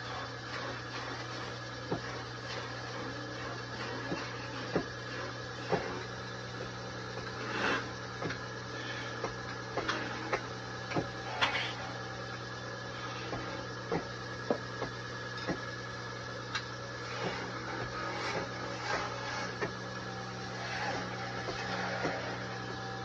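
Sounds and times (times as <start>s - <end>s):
chisel scraping spinning wood: 0.0s - 23.0s
wood lathe motor hum: 0.0s - 23.0s.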